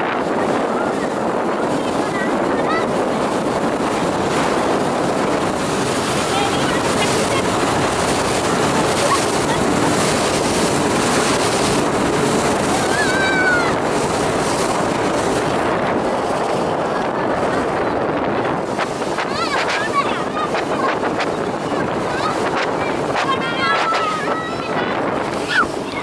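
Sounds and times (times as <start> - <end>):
motorboat engine: 0.0 - 26.0
wind and water rushing past hull: 0.0 - 26.0.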